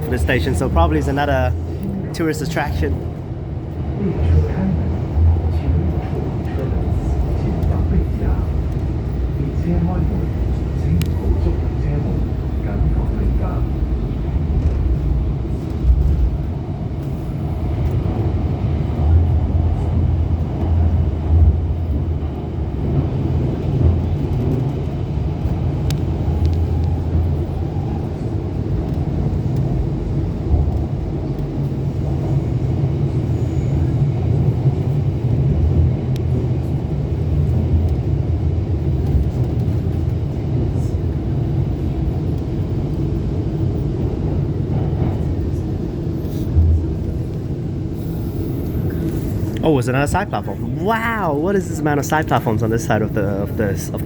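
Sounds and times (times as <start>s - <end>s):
metro train rumble: 0.0s - 54.0s.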